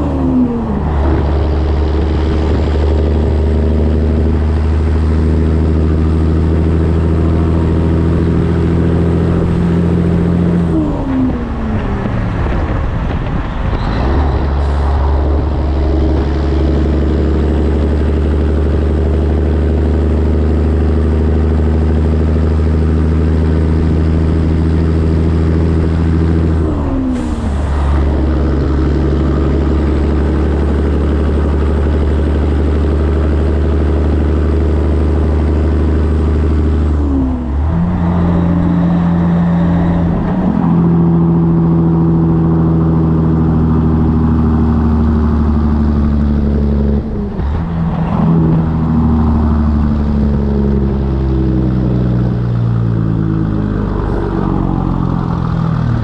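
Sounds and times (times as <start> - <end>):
truck diesel engine shifting gears: 0.0 - 56.0.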